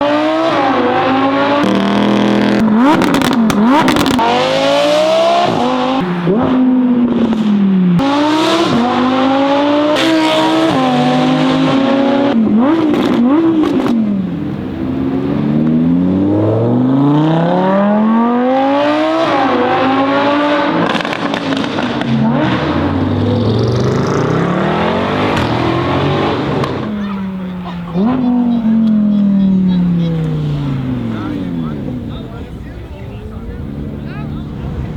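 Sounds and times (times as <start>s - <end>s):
car engine accelerating hard: 0.0s - 34.9s
exhaust crackles: 0.6s - 9.2s, 9.8s - 34.9s.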